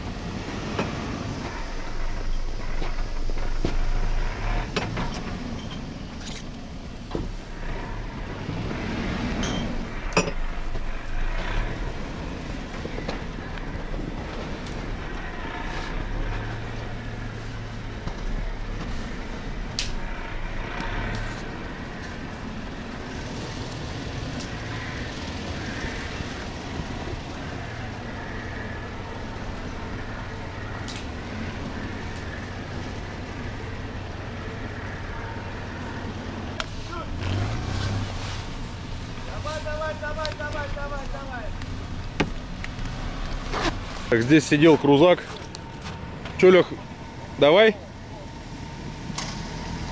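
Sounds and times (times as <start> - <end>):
vehicle engine droning: 0.0 - 49.9.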